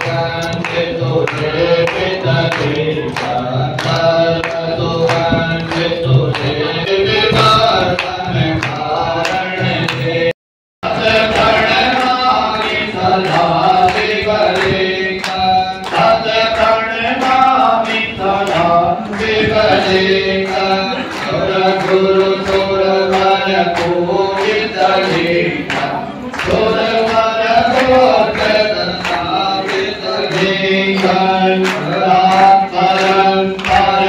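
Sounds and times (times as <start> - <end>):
voices chanting a hymn: 0.0 - 34.0.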